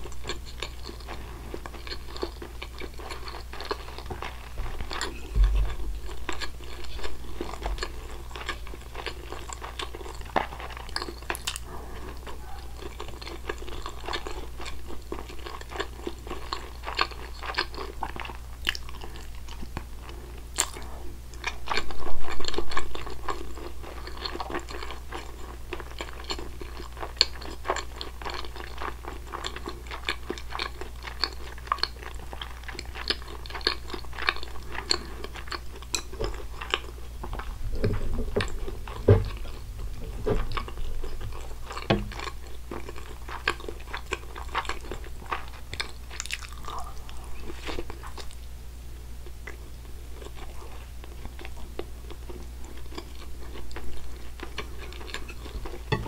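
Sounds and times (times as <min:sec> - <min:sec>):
chewing and mouth smacks: 0:00.0 - 0:48.4, 0:49.2 - 0:56.0
steady low hum: 0:00.0 - 0:56.0.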